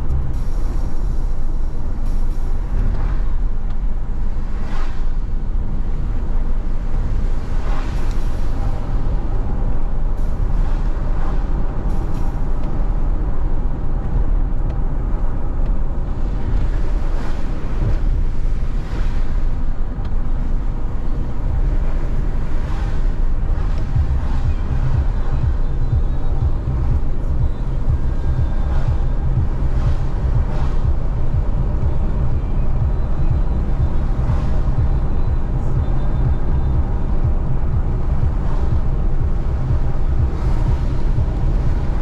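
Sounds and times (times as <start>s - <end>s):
passing vehicles swishing: 0.0s - 42.0s
road and engine rumble: 0.0s - 42.0s.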